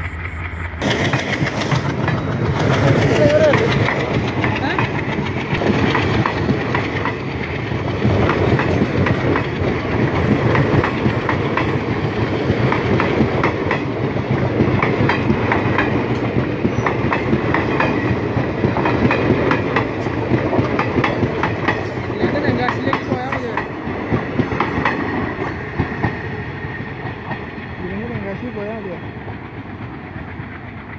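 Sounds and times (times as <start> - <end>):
train coaches rumbling: 0.0 - 30.9
wheels clacking over rail joints: 0.0 - 30.9.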